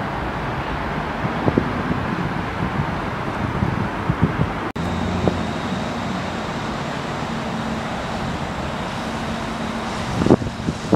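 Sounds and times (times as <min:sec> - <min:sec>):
traffic rumble: 0:00.0 - 0:10.9
wind gusting on microphone: 0:00.0 - 0:10.9.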